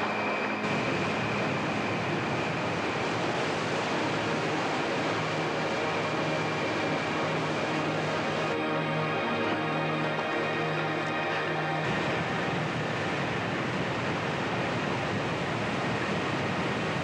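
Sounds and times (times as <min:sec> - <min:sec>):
rushing stream water: 0:00.0 - 0:17.0.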